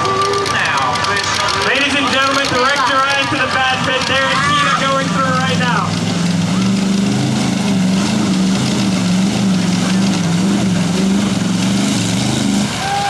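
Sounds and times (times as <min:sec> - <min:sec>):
engine running hard: 0:00.0 - 0:13.0.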